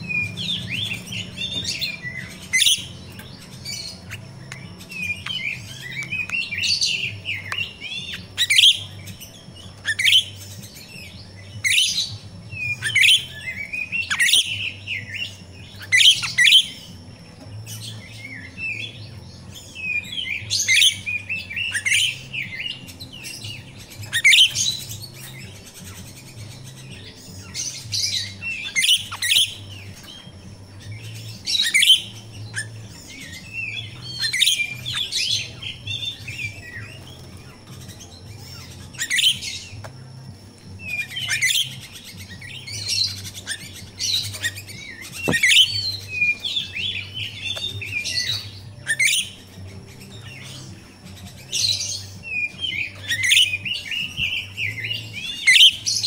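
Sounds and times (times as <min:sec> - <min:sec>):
bird high-pitched chirps: 0:00.0 - 0:56.0.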